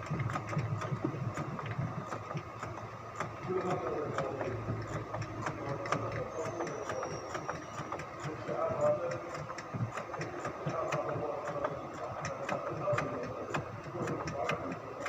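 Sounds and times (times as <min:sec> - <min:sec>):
evenly spaced ticks: 0:00.0 - 0:15.0.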